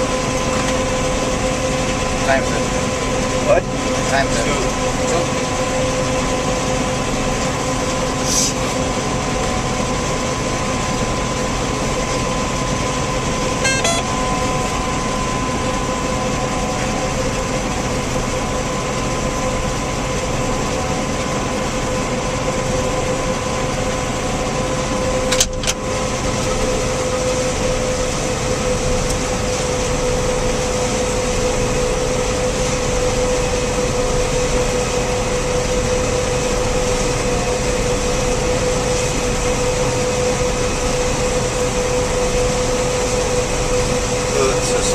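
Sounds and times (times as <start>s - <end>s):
combine harvester drone: 0.0s - 44.9s.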